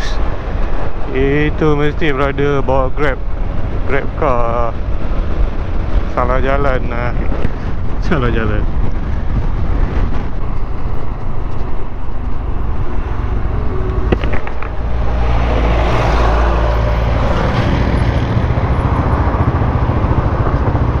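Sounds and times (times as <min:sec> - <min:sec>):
wind over microphone: 0:00.0 - 0:21.0.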